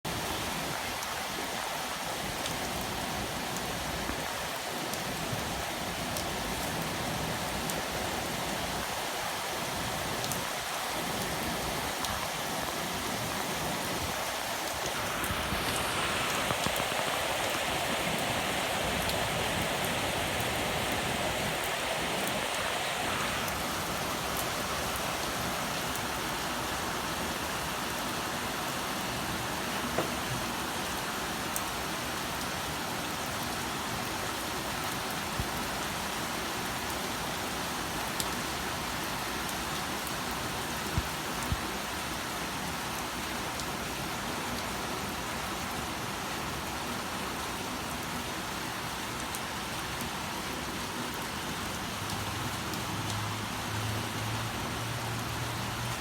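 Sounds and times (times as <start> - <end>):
heavy rain pouring: 0.1 - 56.0.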